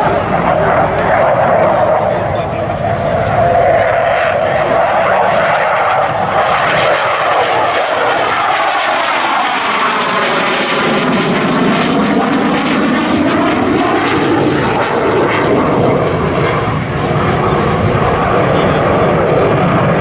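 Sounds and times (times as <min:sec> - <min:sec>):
jets flying past: 0:00.0 - 0:20.0.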